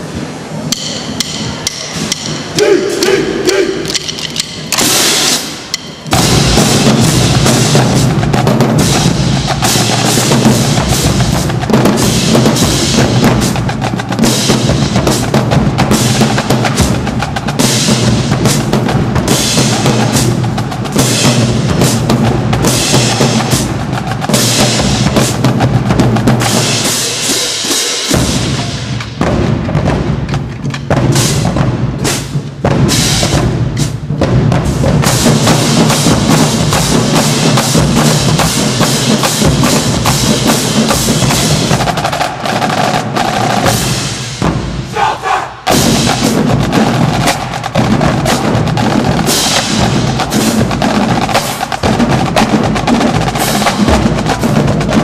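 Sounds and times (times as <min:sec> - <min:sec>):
marching drumline: 0:00.0 - 0:55.0.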